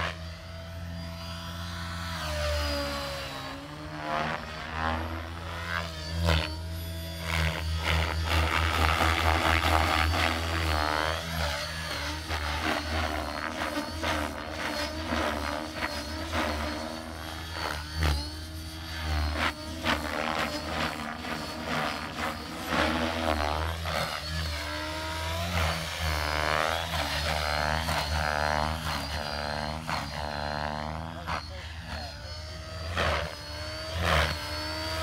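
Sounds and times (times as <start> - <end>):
model helicopter rotor whine: 0.0 - 35.0.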